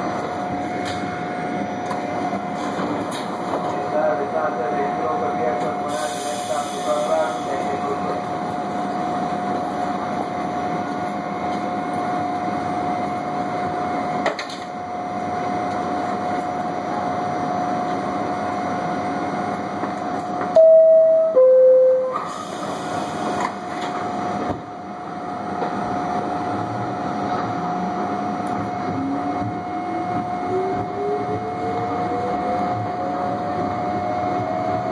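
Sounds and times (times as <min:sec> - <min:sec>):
rail and wheel noise: 0:00.0 - 0:34.9
subway train running: 0:00.0 - 0:34.9.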